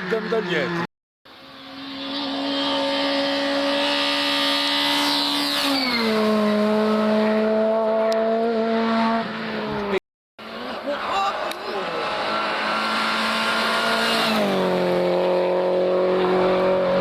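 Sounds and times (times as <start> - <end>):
rally car passing at speed: 0.1 - 17.0.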